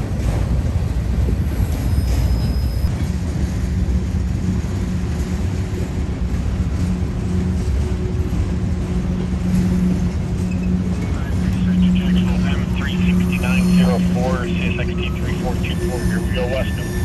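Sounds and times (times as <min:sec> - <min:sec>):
train rumbling by: 0:00.0 - 0:17.0.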